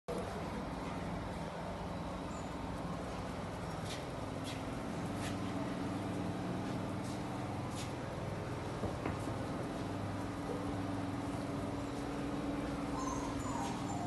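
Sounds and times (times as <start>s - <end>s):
low mechanical drone: 0.1s - 14.0s.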